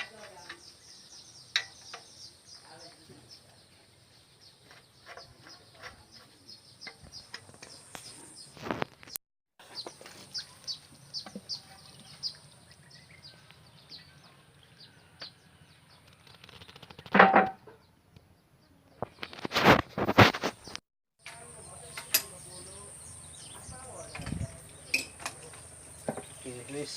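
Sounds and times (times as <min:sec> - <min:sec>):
small birds chirping: 0:00.0 - 0:17.1, 0:17.7 - 0:19.6, 0:20.3 - 0:26.9.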